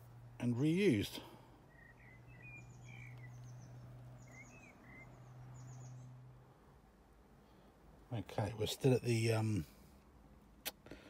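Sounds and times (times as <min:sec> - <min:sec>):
songbirds chirping: 0:00.0 - 0:10.6.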